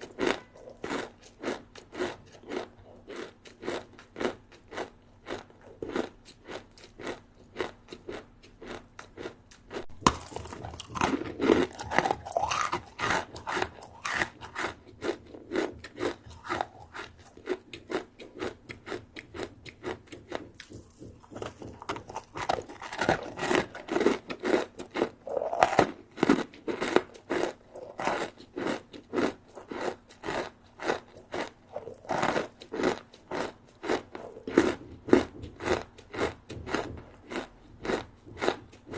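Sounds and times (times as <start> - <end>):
chewing crispy rice snack: 0.0 - 38.9.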